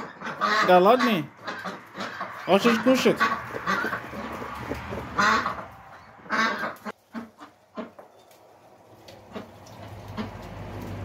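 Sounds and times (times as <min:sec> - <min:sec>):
ducks quacking: 0:00.0 - 0:08.1, 0:09.1 - 0:10.7.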